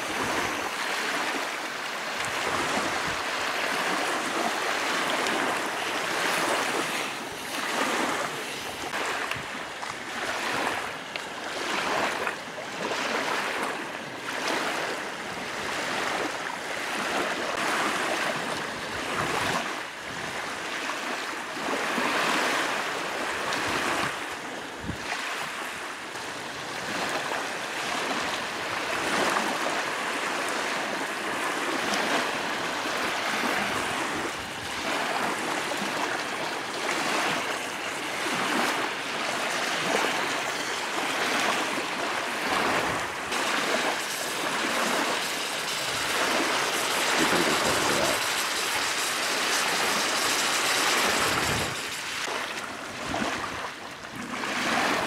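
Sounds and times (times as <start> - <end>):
water splashing around kayak: 0.0 - 55.0.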